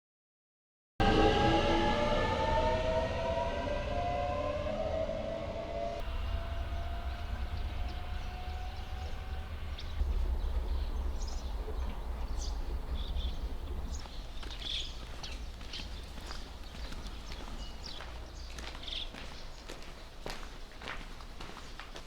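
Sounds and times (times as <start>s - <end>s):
steady low rumble: 1.0s - 18.9s.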